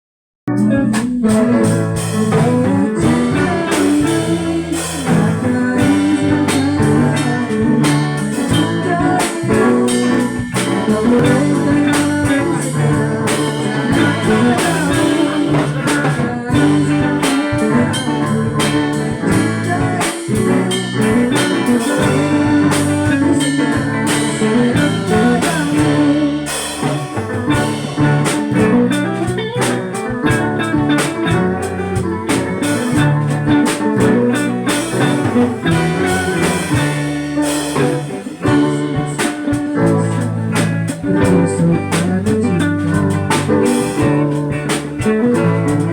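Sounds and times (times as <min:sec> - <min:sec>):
bass notes: 0:00.5 - 0:45.9
drum kit: 0:00.5 - 0:45.9
guitar: 0:00.5 - 0:45.9.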